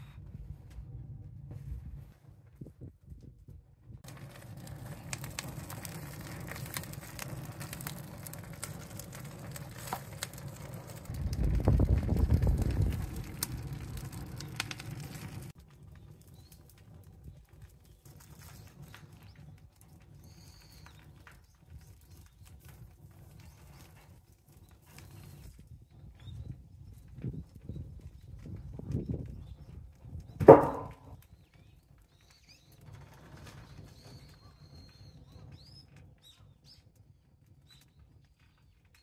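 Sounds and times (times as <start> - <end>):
fire crackling and snapping: 3.9 - 39.0.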